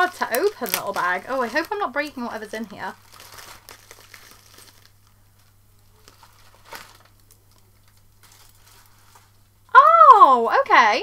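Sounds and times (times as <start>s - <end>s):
packaging bag crinkling and rustling: 0.0s - 9.6s.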